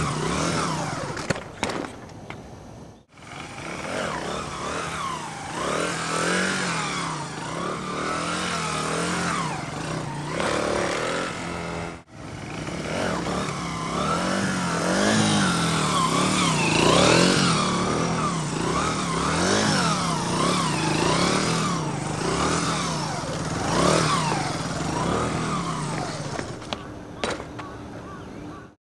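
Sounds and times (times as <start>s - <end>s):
motorcycle engine revving: 0.0s - 1.9s, 3.0s - 28.7s.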